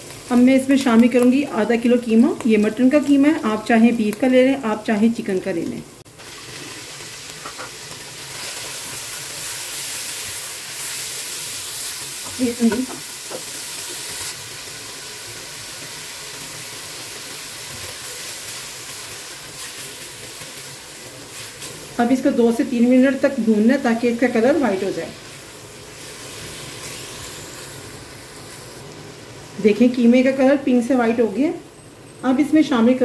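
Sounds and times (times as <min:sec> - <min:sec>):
meat sizzling in oil: 0:00.0 - 0:31.4.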